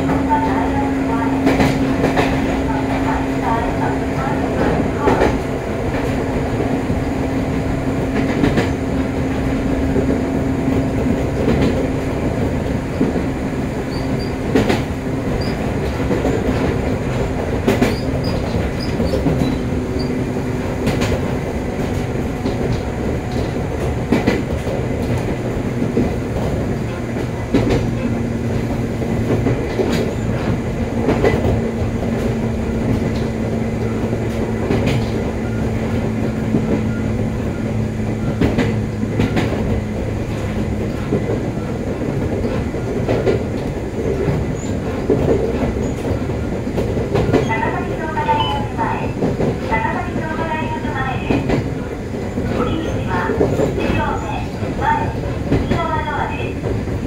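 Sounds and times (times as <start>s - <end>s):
electric train rumbling on track: 0.0s - 57.0s.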